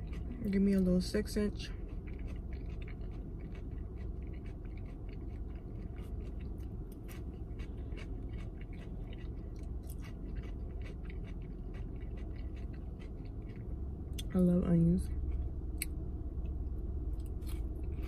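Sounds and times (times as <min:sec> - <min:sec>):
person chewing food: 0:00.0 - 0:00.6, 0:01.6 - 0:14.3, 0:15.1 - 0:18.0
steady low rumble: 0:00.0 - 0:18.0.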